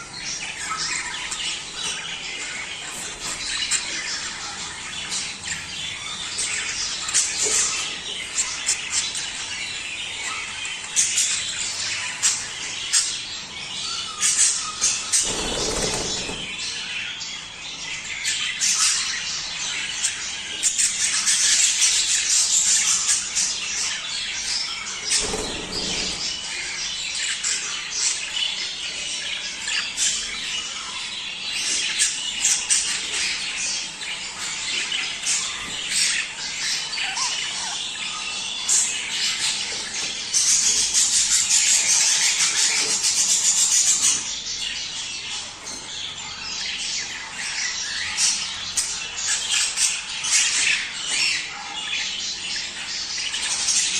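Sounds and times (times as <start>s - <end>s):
budgerigars chattering: 0.0s - 53.9s.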